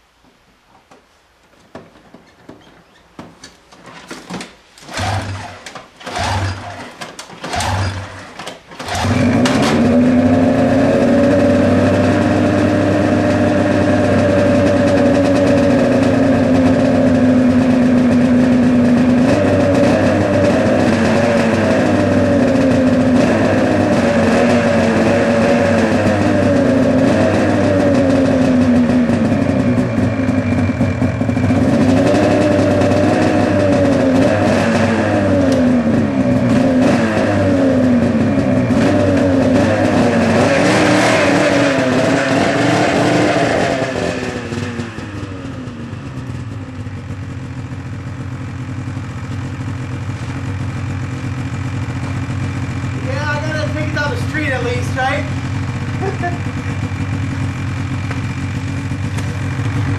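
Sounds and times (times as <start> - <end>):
snowmobile engine starting and idling: 3.8 - 59.9.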